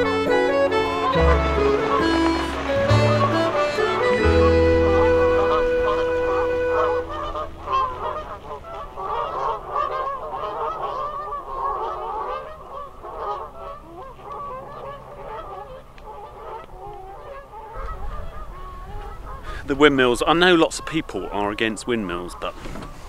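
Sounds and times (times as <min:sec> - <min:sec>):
geese honking: 0:00.0 - 0:22.6.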